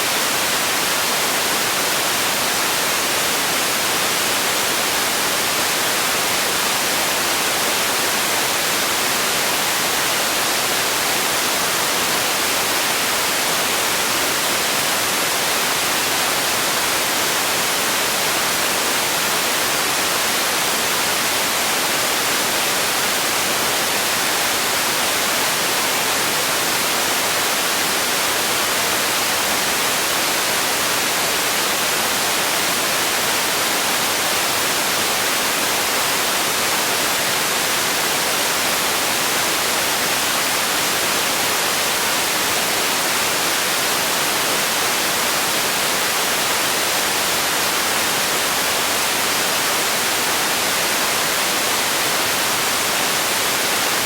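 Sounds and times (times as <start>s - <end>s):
static-like hiss: 0.0s - 54.0s.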